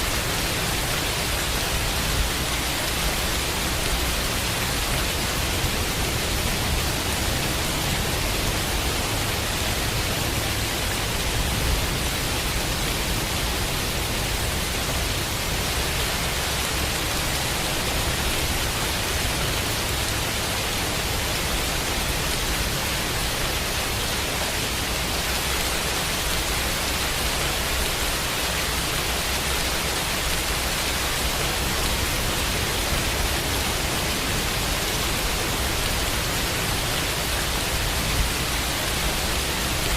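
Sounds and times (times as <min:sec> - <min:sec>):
steady rain: 0:00.0 - 0:39.9
white-noise hiss: 0:00.0 - 0:39.9.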